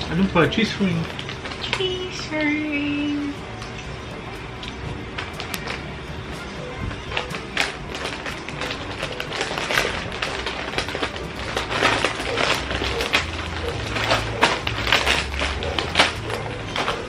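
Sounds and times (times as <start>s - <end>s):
chips and packaging crackling: 0.0s - 17.0s.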